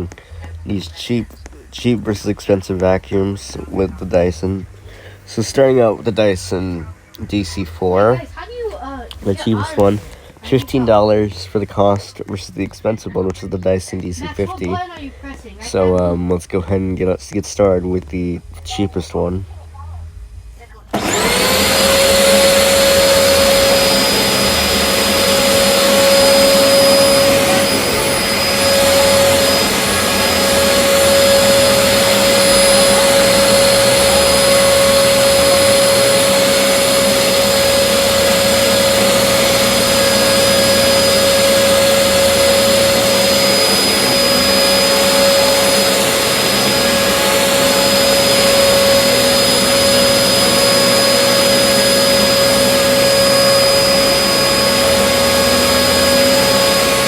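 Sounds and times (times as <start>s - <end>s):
vacuum cleaner running: 0.0s - 16.4s, 20.9s - 57.0s.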